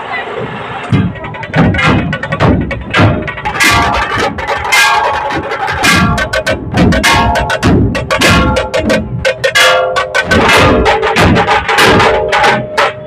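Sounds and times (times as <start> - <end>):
barrel drums beaten with sticks: 0.9 - 13.0
metallic ringing: 1.2 - 13.0.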